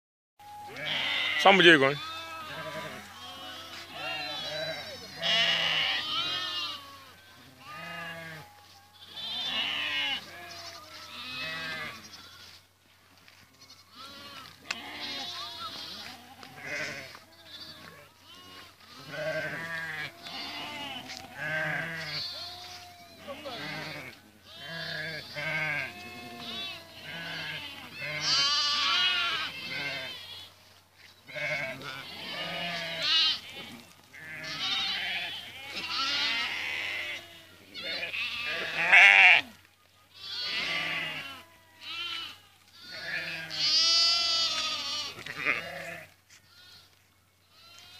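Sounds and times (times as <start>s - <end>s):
sheep bleating: 0.7s - 30.6s, 31.2s - 39.5s, 40.1s - 47.9s.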